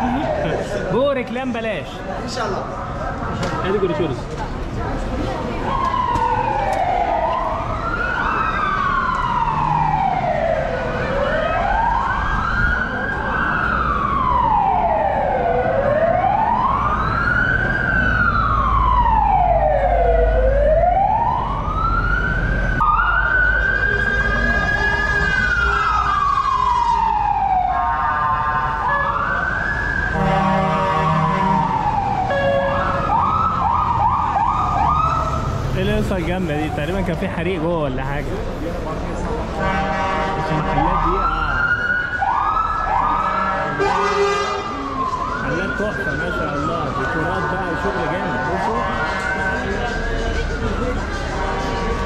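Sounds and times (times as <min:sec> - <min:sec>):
emergency sirens wailing: 0:00.0 - 0:01.2, 0:01.9 - 0:52.0.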